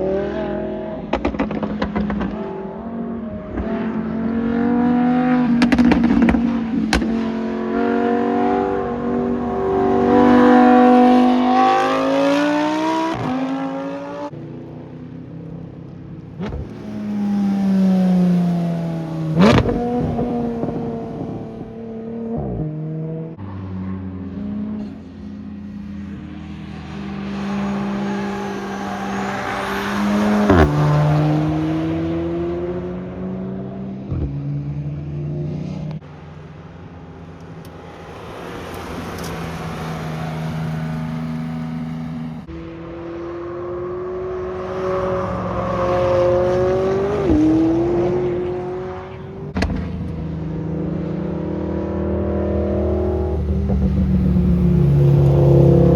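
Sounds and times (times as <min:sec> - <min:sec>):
sports cars accelerating past: 0:00.0 - 0:55.9.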